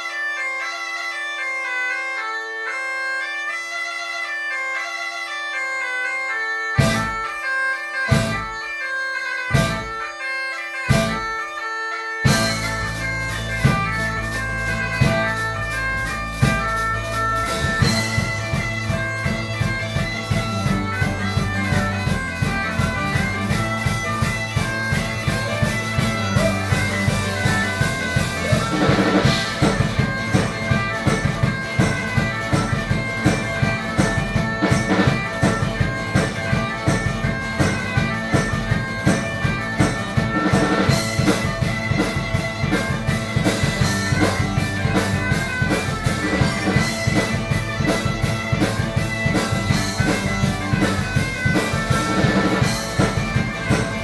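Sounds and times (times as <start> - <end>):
droning bagpipe-like melody: 0.0 - 54.0
electric guitar: 5.5 - 54.0
bass: 6.8 - 7.2, 8.1 - 8.5, 9.6 - 10.0, 10.9 - 11.3, 12.3 - 54.0
steady drumbeat: 6.8 - 7.4, 8.0 - 8.7, 9.5 - 10.1, 10.8 - 11.4, 12.2 - 54.0.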